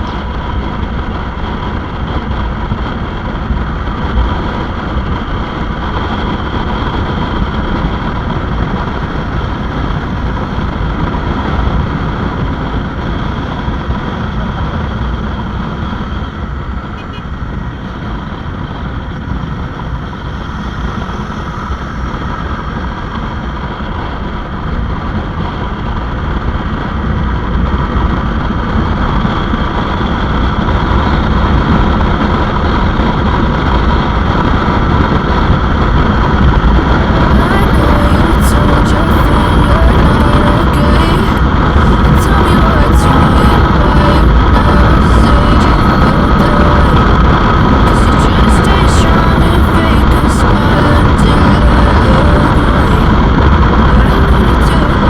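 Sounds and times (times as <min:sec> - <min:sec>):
motorcycle engine running: 0:00.0 - 0:49.9
wind rushing over microphone: 0:00.0 - 0:55.0.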